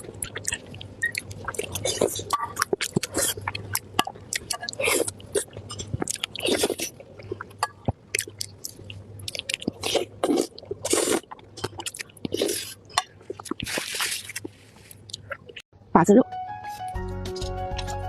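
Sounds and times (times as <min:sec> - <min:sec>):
wet chewing mouth sounds: 0:00.0 - 0:15.6.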